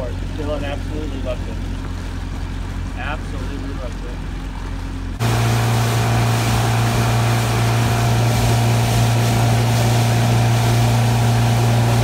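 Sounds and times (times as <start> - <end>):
boat wake hissing: 0.0 - 12.0
outboard motor humming: 0.0 - 12.0
wind: 0.0 - 12.0.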